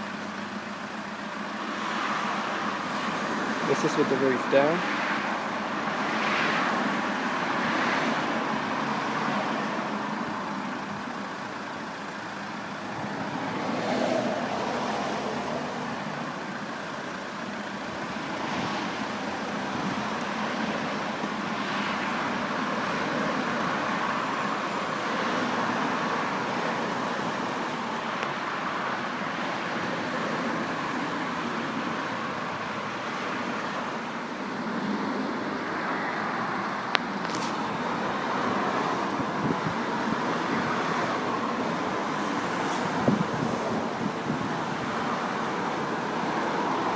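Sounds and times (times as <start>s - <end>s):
road traffic: 0.0s - 46.9s
vehicles passing: 0.0s - 46.9s.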